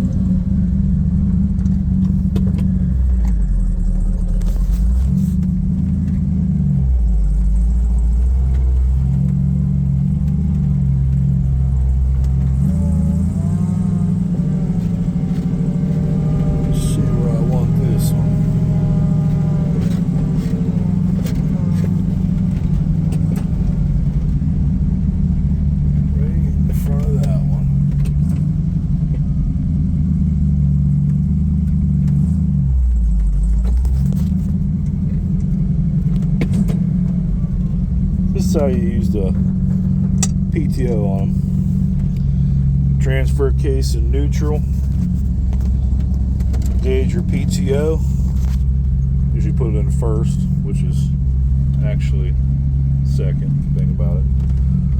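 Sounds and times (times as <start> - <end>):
truck engine under heavy load: 0.0 - 54.9.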